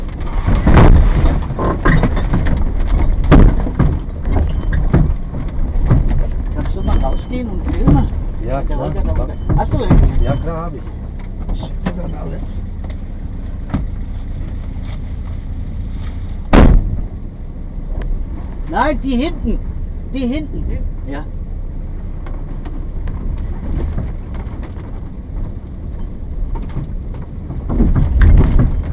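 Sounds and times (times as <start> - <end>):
vehicle knocks and jolts: 0.0 - 20.4, 21.7 - 28.9
off-road vehicle rumbling: 0.0 - 28.9.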